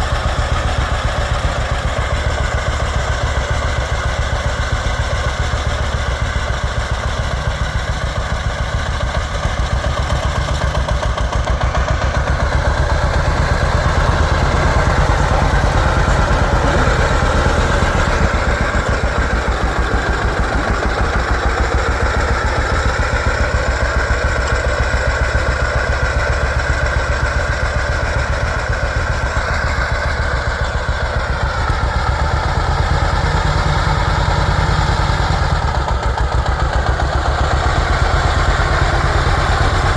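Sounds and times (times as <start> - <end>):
tractor engine pulsing: 0.0 - 39.9.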